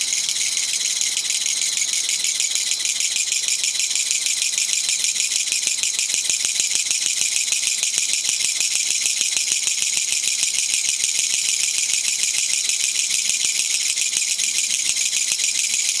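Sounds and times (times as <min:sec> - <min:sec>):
katydid rasping rattle: 0:00.0 - 0:16.0.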